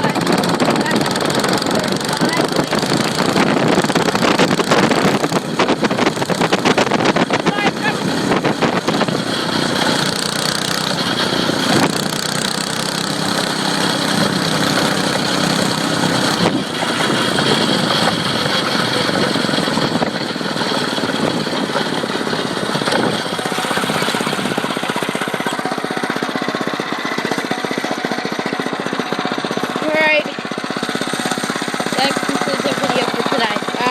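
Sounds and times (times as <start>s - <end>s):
dirt bike engine running: 0.0s - 33.9s.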